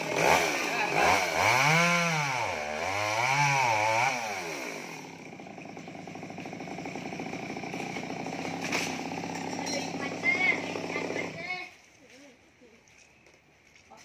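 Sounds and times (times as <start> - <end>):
chainsaw idling: 0.0 - 11.7
chainsaw revving and cutting: 0.0 - 11.7.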